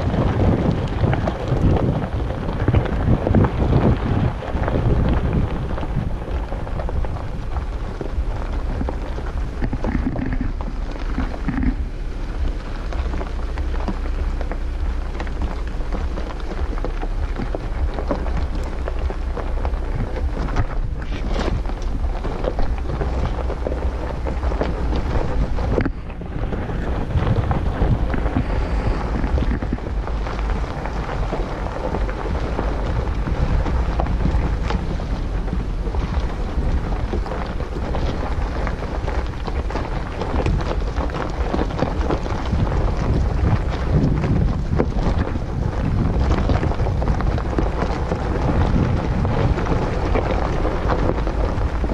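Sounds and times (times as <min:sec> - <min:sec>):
tyres crackling over gravel: 0:00.0 - 0:51.9
vehicle engine drone: 0:00.0 - 0:51.9.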